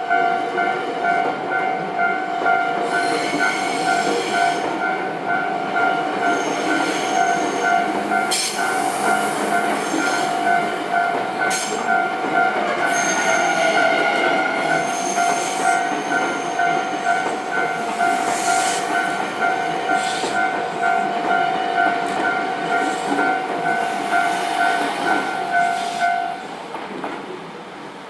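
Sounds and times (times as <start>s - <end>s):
train passing: 0.0s - 28.0s
level crossing alarm clanging: 0.1s - 26.4s.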